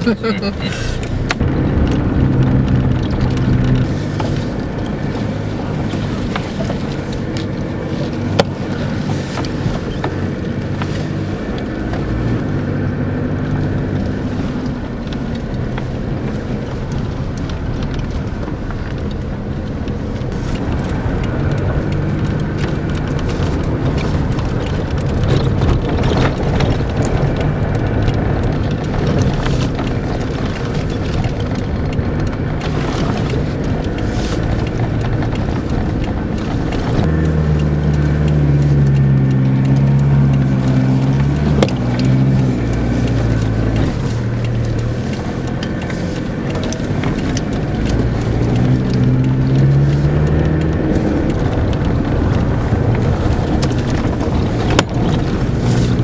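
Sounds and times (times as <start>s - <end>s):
vehicle engine and tyre rumble: 0.0s - 56.0s.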